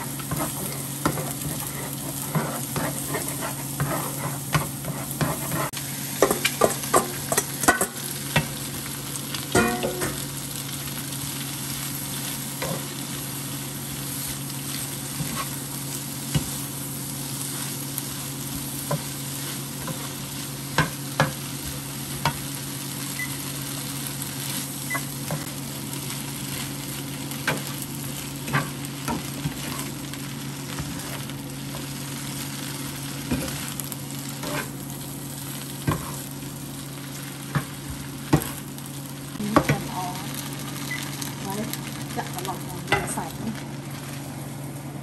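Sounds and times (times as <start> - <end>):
food sizzling in frying pan: 0.0 - 45.0.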